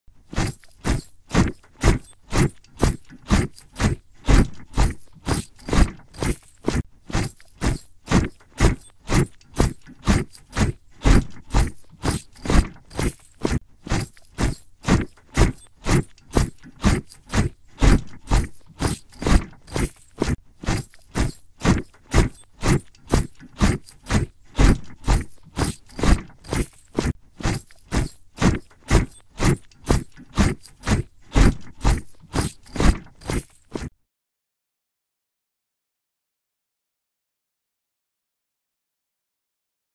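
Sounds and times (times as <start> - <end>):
boots marching in step: 0.2 - 33.9.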